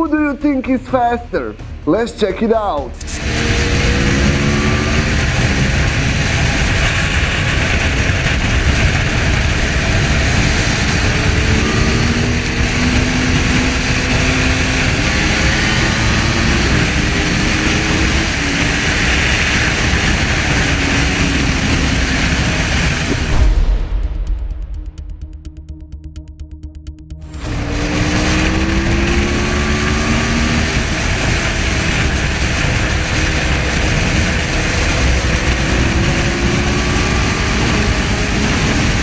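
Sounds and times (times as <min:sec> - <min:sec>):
racing engines at high speed: 0:00.0 - 0:23.6, 0:27.2 - 0:39.0
wind rush on microphone: 0:03.0 - 0:24.3, 0:27.4 - 0:39.0.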